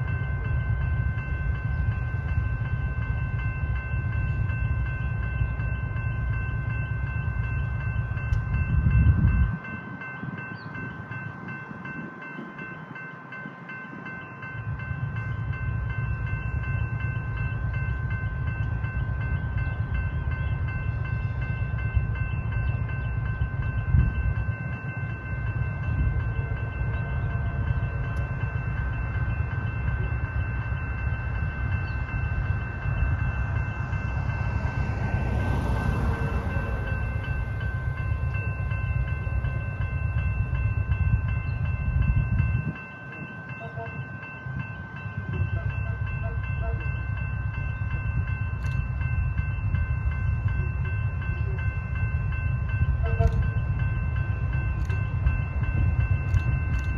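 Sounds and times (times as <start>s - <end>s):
level crossing bells ringing: 0.0s - 56.9s.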